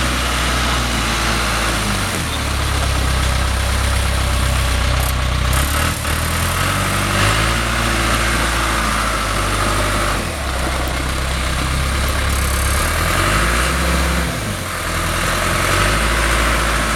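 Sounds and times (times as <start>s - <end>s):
backhoe diesel engine running: 0.0s - 16.9s.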